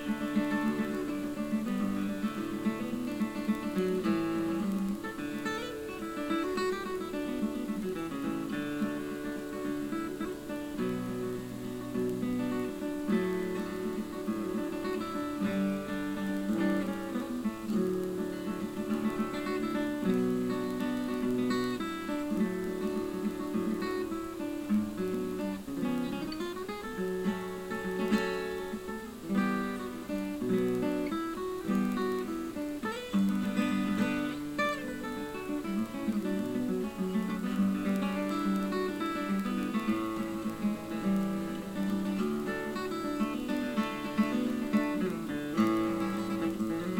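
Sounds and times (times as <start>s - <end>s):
acoustic guitar picking a tune: 0.0s - 46.9s.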